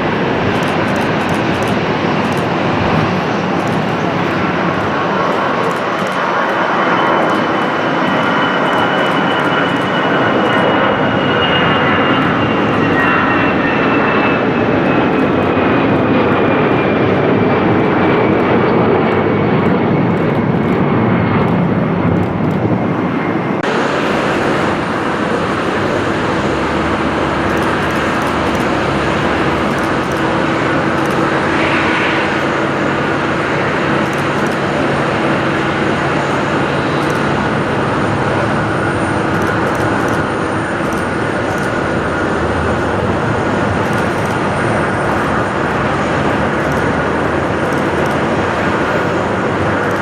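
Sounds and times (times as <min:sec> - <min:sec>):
airliner engines passing: 0:00.0 - 0:50.0.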